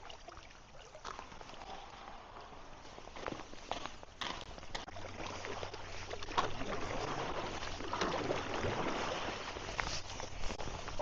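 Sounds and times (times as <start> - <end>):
paddle splashing in water: 0.0 - 11.0.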